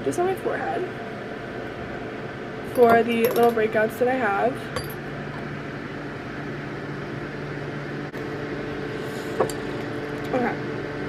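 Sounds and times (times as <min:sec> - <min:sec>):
appliance mechanical hum: 0:00.0 - 0:11.0.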